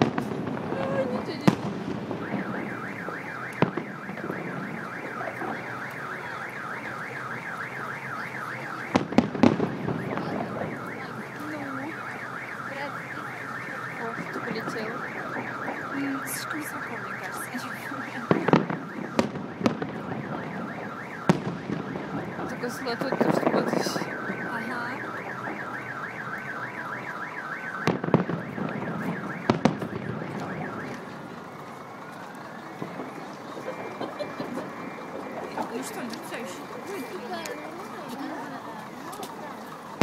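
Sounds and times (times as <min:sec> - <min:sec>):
fireworks bursting with bangs: 0:00.0 - 0:07.2, 0:08.2 - 0:26.0, 0:27.6 - 0:38.1
car alarm warbling: 0:00.0 - 0:40.0.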